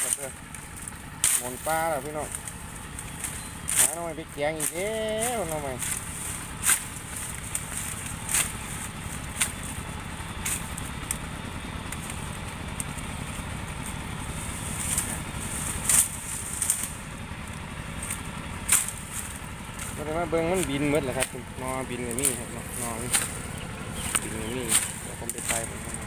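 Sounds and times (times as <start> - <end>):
dry leaf litter snapping: 0.0 - 26.0
steady low rumble: 0.0 - 26.0.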